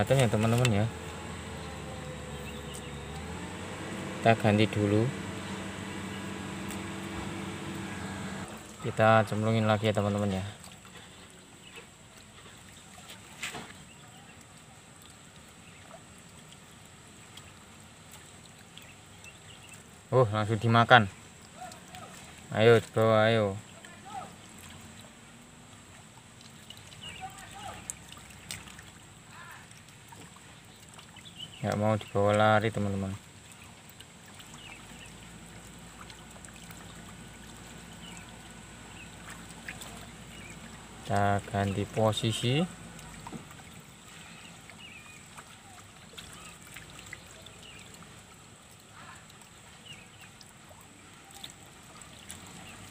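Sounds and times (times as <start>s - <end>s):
faint outdoor ambience: 0.0s - 52.9s
faint trickling water: 0.0s - 52.9s.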